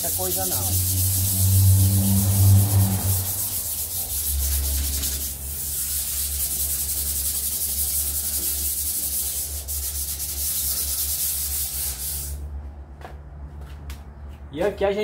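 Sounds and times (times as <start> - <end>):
sanding metal: 0.0 - 12.4.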